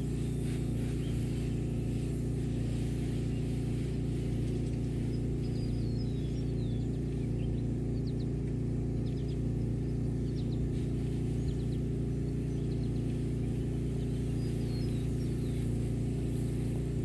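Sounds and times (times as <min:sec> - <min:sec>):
pressure washer engine running: 0:00.0 - 0:17.0
small birds chirping: 0:00.0 - 0:17.0.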